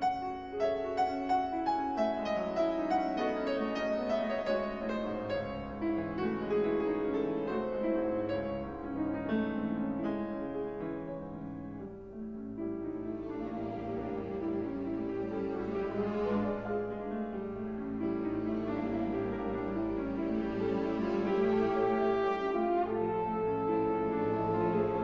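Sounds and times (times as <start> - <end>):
piano notes: 0.0 - 25.0.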